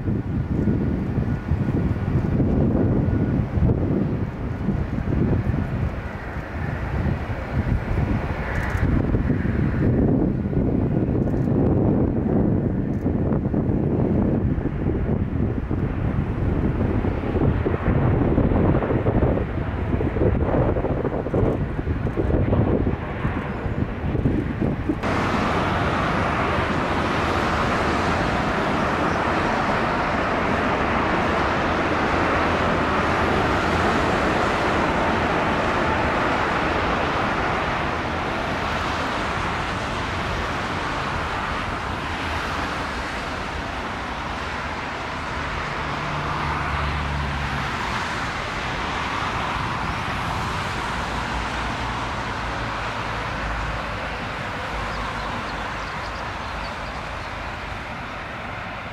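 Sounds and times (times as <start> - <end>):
jet engines roaring: 0.0 - 58.9.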